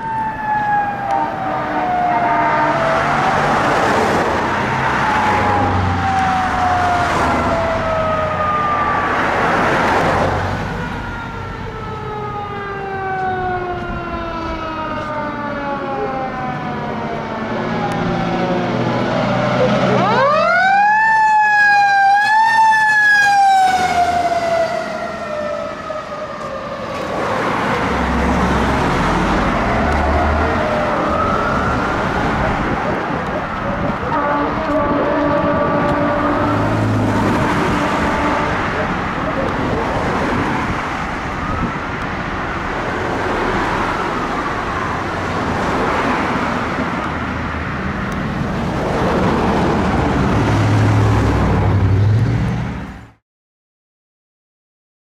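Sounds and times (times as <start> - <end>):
fire truck siren wailing: 0.0 - 52.2
traffic: 0.0 - 53.2.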